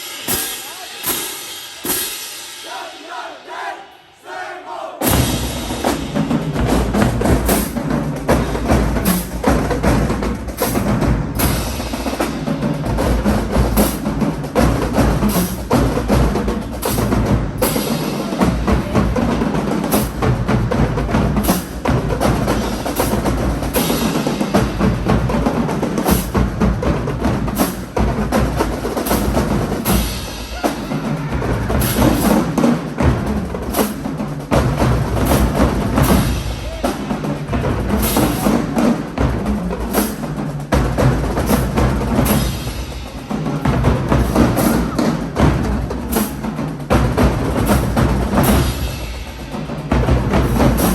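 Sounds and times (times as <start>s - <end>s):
drumline playing snare and bass drums: 0.0s - 3.0s, 5.0s - 50.9s.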